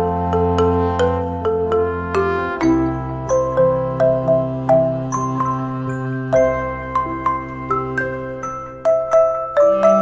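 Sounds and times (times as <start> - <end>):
bell-like mallet melody: 0.0 - 10.0
held chords: 0.0 - 10.0.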